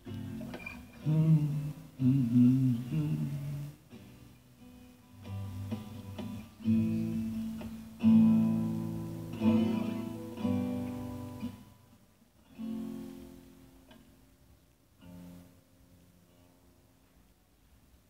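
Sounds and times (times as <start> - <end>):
acoustic guitar chords strummed: 0.0 - 14.2, 15.0 - 16.6.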